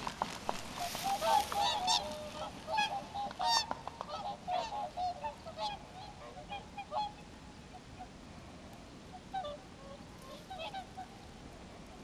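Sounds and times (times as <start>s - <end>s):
swans calling in flight: 0.0s - 8.1s, 9.1s - 11.3s.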